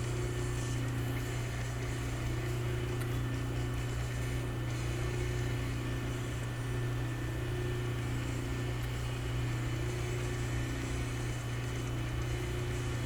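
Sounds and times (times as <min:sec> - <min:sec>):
low electrical machine hum: 0:00.0 - 0:13.0.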